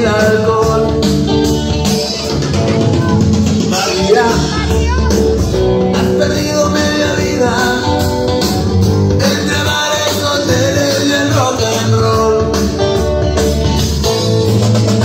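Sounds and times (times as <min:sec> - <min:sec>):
rock song with singing and guitar: 0:00.0 - 0:15.0.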